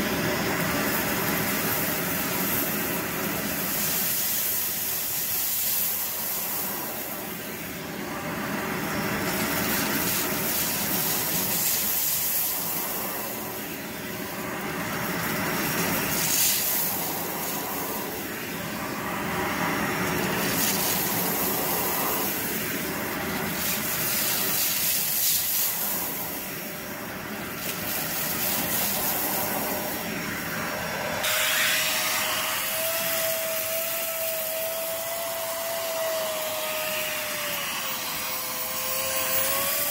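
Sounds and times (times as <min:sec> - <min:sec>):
steady vacuum whine: 0:00.0 - 0:39.9
vacuum cleaner on carpet: 0:00.0 - 0:39.9.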